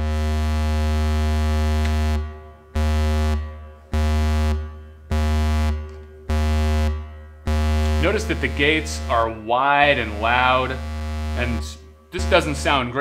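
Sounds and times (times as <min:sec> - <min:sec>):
low synthesizer notes: 0:00.0 - 0:13.0.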